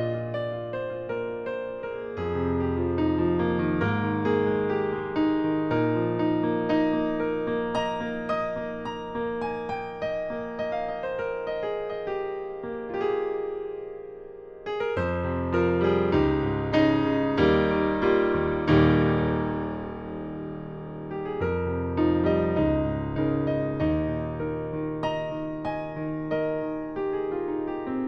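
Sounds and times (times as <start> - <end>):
digital piano playing chords: 0.0 - 28.0.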